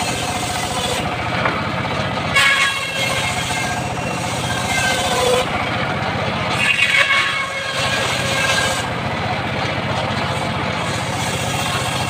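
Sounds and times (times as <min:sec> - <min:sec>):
circular saw cutting wood: 0:00.0 - 0:12.0.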